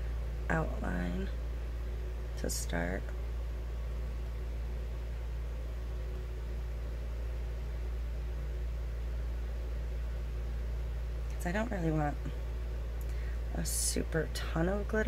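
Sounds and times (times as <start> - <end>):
low room hum and hiss: 0.0 - 15.0.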